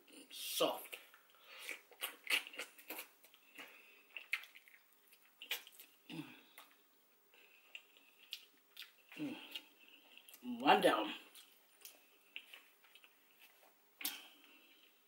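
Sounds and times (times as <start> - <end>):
wet mouth eating sounds: 1.0 - 10.4, 11.2 - 15.0.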